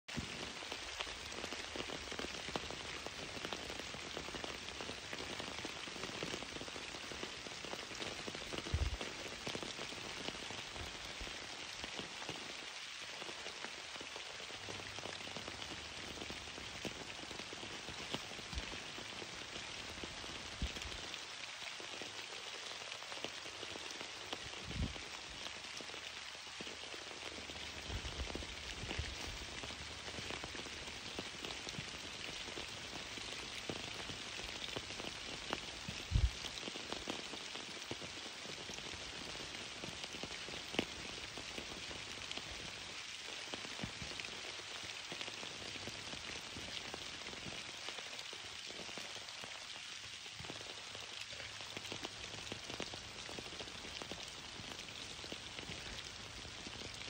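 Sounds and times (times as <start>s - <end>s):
rain falling: 0.1s - 57.0s.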